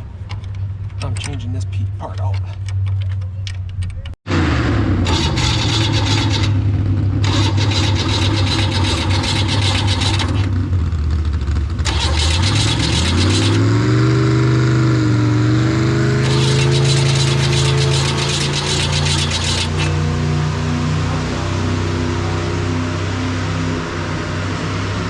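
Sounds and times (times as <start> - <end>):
tractor engine revving: 4.3 - 25.0.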